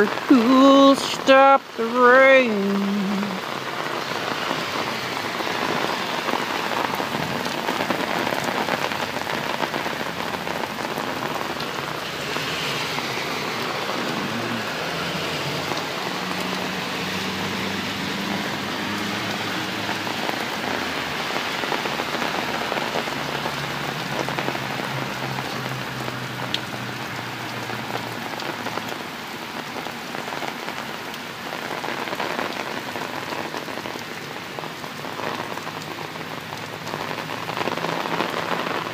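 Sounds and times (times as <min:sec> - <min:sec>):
cars passing on flooded road: 0:00.0 - 0:38.9
heavy rain on umbrella: 0:00.0 - 0:38.9.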